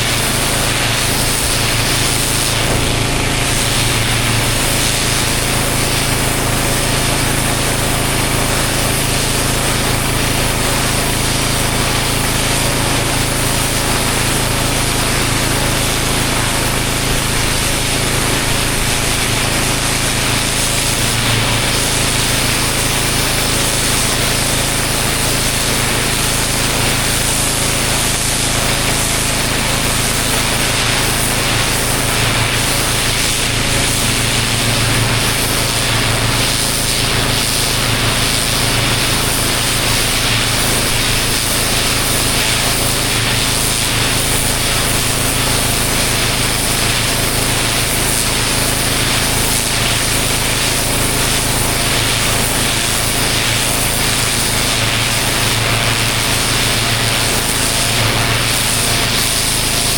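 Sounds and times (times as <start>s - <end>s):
pressure washer engine hum: 0.0s - 59.9s
water jet spraying on paving: 0.0s - 59.9s.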